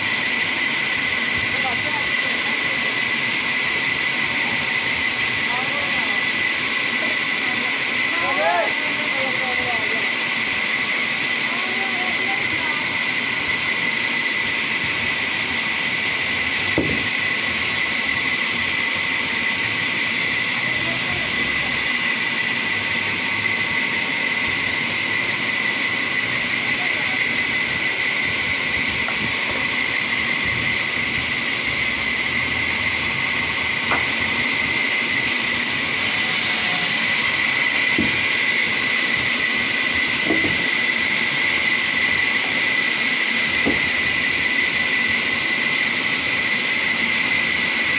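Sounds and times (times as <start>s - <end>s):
saw high-pitched whine: 0.0s - 47.9s.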